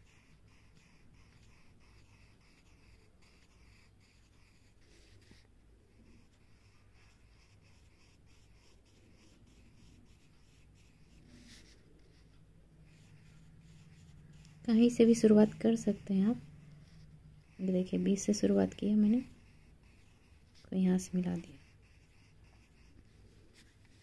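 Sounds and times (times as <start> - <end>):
pencil scratching on paper: 0.0 - 24.0.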